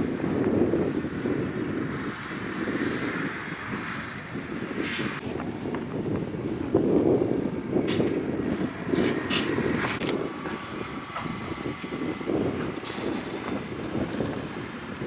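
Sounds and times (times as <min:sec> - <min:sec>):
fire rushing rumble: 0:00.0 - 0:15.0.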